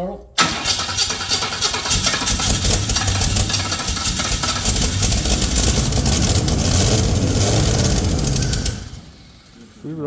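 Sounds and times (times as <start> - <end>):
car engine idling: 0.4 - 10.0.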